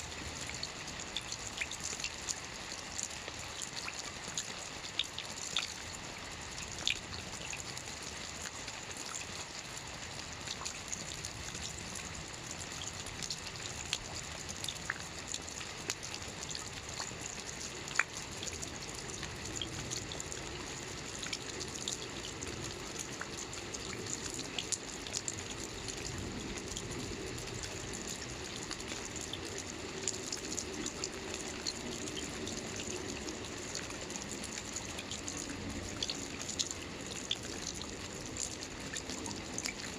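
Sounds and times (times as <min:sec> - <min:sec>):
light rain pattering: 0:00.0 - 0:39.9
water trickling: 0:00.0 - 0:39.9.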